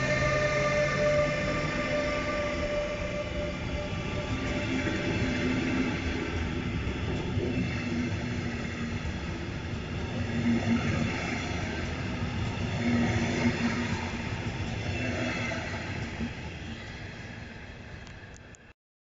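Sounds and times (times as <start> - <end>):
train wheels rumbling on rail: 0.0 - 18.7.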